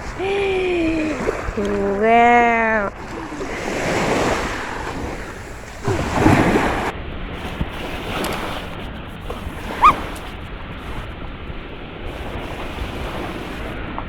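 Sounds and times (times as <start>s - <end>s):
sea waves washing on shore: 0.0s - 14.0s
wind buffeting microphone: 0.0s - 14.0s.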